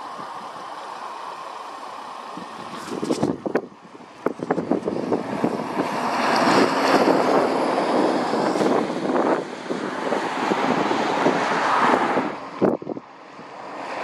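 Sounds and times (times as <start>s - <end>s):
lorry engine running: 0.0s - 14.0s
tyres hissing on wet road: 0.0s - 14.0s
wind buffeting microphone: 2.3s - 14.0s.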